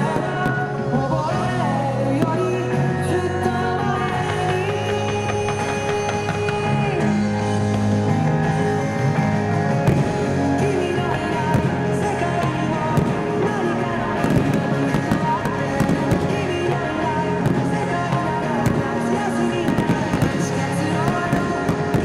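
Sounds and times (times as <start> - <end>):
fireworks cracking and bursting: 0.0 - 22.0
rock song with singing and guitar: 0.0 - 22.0.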